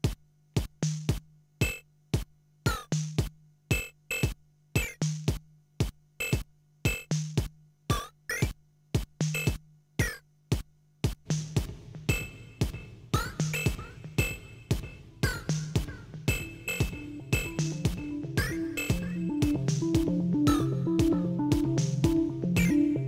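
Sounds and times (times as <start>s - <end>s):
electronic drum pattern: 0.6s - 10.2s, 11.1s - 23.0s.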